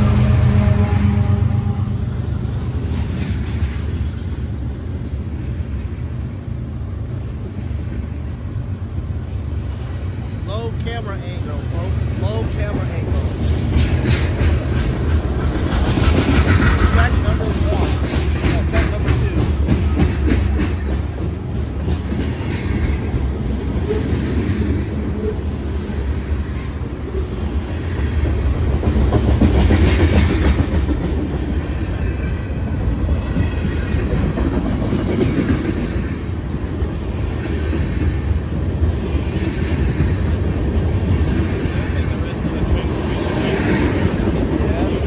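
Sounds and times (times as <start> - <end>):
freight train wheels rumbling on rails: 0.0 - 45.0
wheels clacking over rail joints: 2.1 - 6.0, 9.3 - 45.0.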